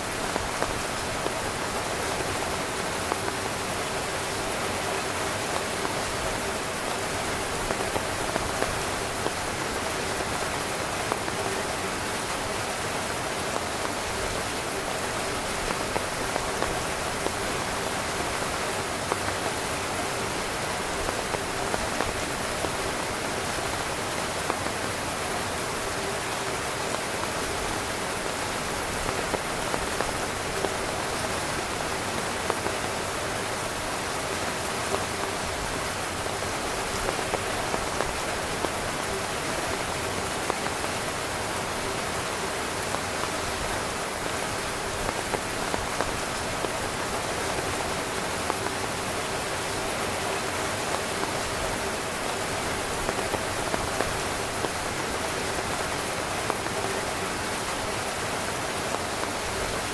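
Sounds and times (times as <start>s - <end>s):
heavy rain drumming on tent fabric: 0.0s - 59.9s.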